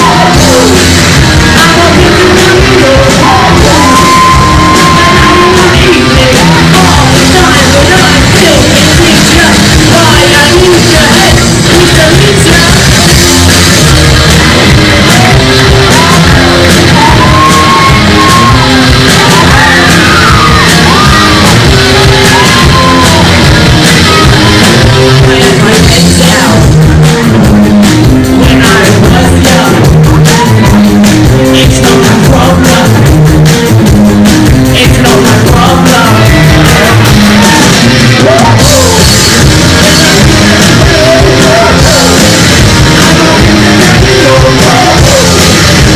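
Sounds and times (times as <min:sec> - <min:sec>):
drums: 0:00.0 - 0:45.9
electric guitars: 0:00.0 - 0:45.9
man singing lead: 0:00.0 - 0:45.9.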